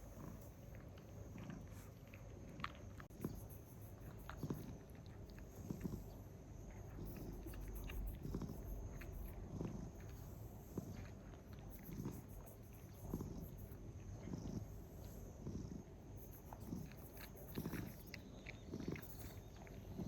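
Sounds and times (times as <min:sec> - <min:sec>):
cats crunching food: 0:00.0 - 0:20.0.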